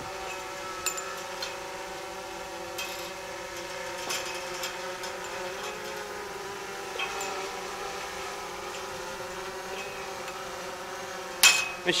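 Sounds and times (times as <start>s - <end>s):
wire clicking and scraping: 0.0s - 11.9s
engine running: 0.0s - 12.0s.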